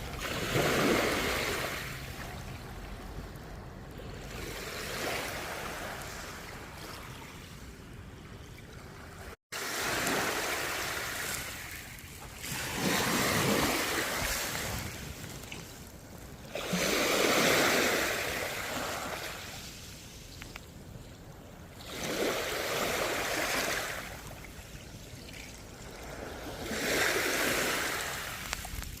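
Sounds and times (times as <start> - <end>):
sea waves breaking on shore: 0.0 - 29.0.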